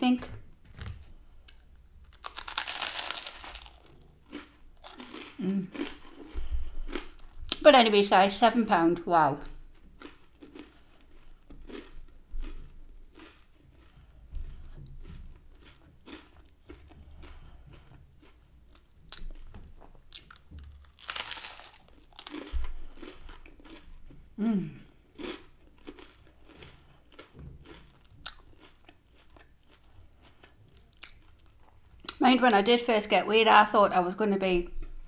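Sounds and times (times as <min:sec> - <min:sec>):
chewing crunchy toasted bread: 0:01.4 - 0:07.4, 0:09.4 - 0:32.2.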